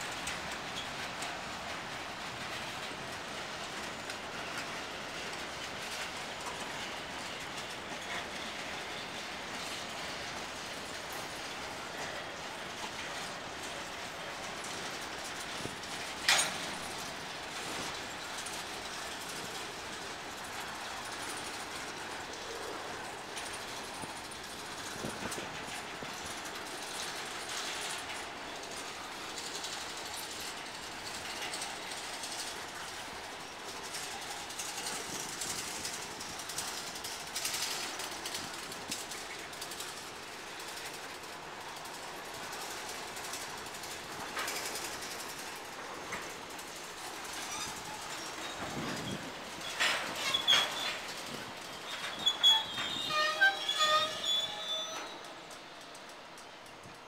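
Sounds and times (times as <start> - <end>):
train wheels rolling on track: 0.0 - 57.0.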